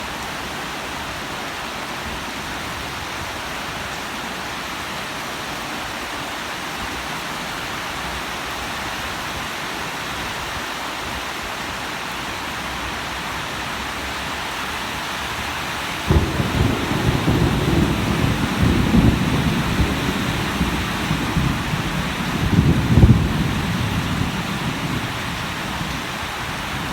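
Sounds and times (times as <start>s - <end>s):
steady rain hiss: 0.0s - 26.9s.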